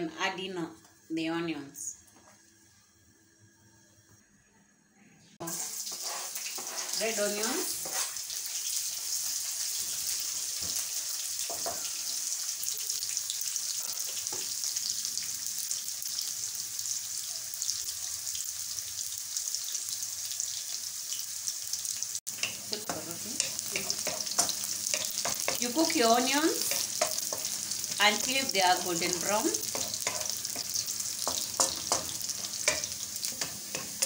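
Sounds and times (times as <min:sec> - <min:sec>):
onions sizzling in hot oil: 0:05.4 - 0:34.0.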